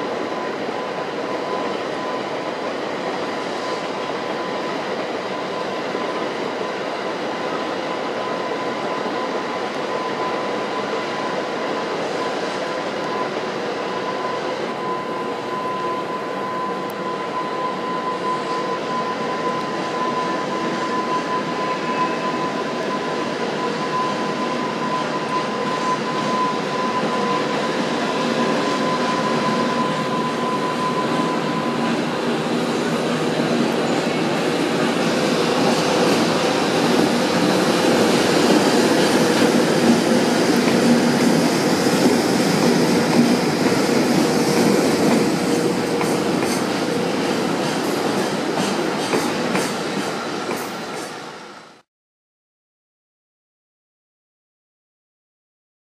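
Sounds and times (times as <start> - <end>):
train wheels rumbling on rail: 0.0 - 51.8.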